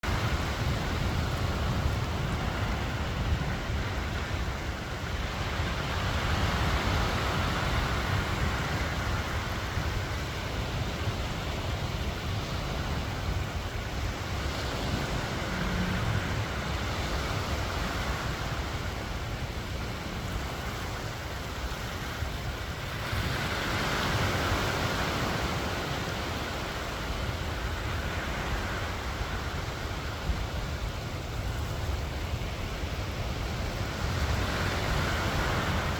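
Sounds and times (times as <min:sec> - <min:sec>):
waves washing on beach: 0:00.0 - 0:35.9
wind rumble on microphone: 0:00.0 - 0:35.9.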